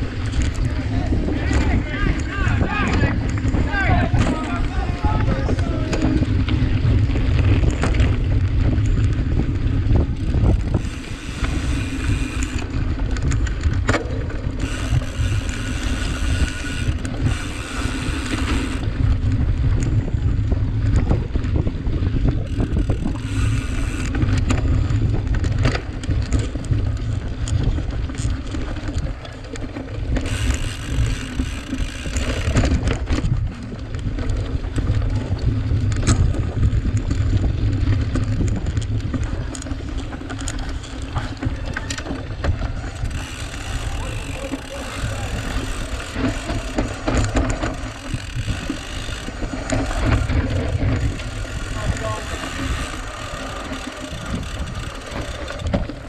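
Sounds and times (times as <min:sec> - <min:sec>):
bike rattling over rough ground: 0:00.0 - 0:56.0
wind rumbling on microphone: 0:00.0 - 0:56.0.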